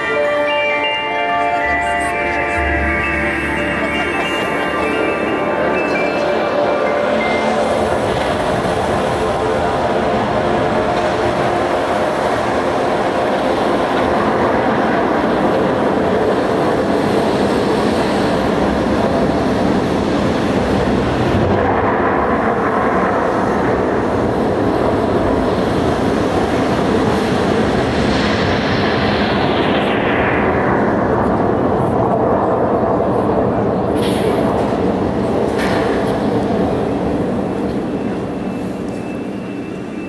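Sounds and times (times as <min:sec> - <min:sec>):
dense rumbling soundtrack over loudspeakers: 0:00.0 - 0:38.9.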